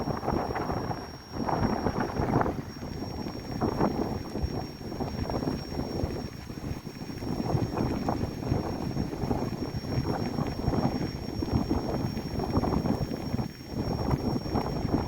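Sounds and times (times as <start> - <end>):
faint high-pitched whine: 0.0 - 15.0
wind on microphone: 0.0 - 15.0.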